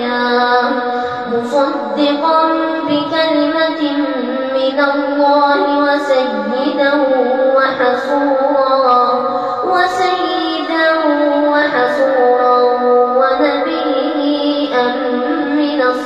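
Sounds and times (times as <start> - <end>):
boy chanting recitation: 0.0 - 16.0.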